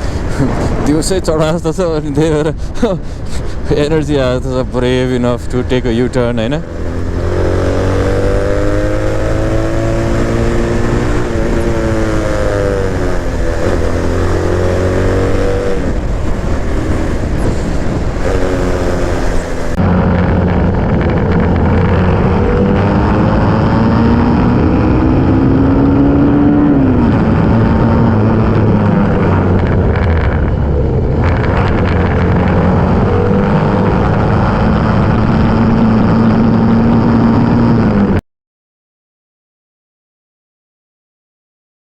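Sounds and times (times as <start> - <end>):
vehicle engine running: 0.0 - 38.2.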